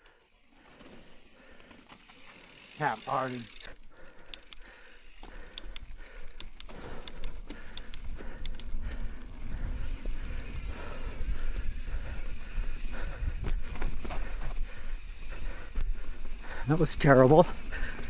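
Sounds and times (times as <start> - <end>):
bike clicks and rattles: 0.0 - 18.0.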